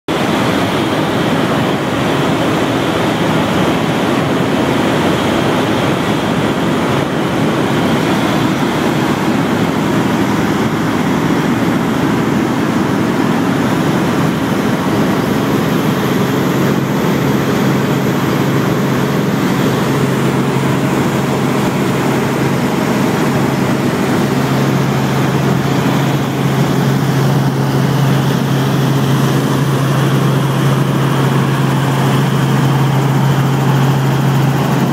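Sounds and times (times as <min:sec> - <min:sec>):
helicopter cabin noise: 0:00.1 - 0:34.9
low hum: 0:00.2 - 0:34.9.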